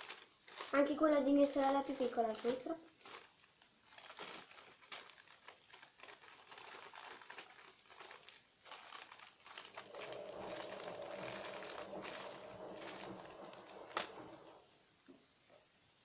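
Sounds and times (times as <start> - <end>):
squishy toys crinkling: 0.0 - 14.6.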